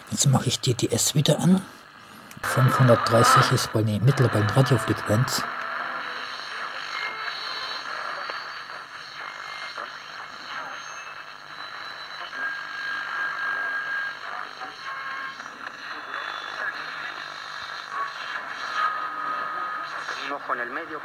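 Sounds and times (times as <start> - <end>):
radio static hissing and crackling: 0.0 - 21.0
steady whistling radio tones: 0.0 - 21.0.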